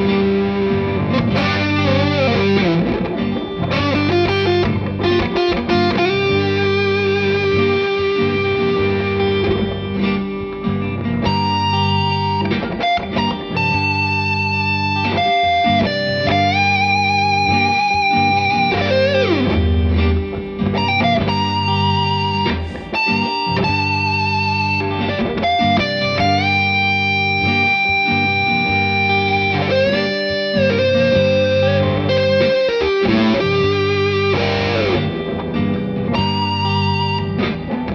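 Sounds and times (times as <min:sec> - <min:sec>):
electric guitar lead with bends: 0:00.0 - 0:37.9
low backing: 0:00.0 - 0:37.9.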